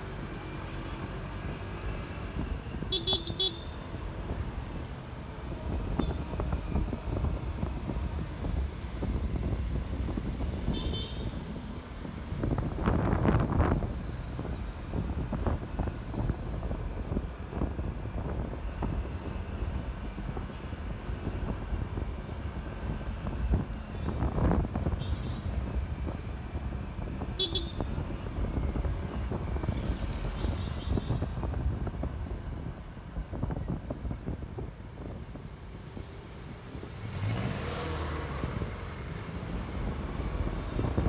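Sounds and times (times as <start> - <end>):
scooter engine and road noise: 0.0 - 41.0
wind buffeting microphone: 3.8 - 41.0.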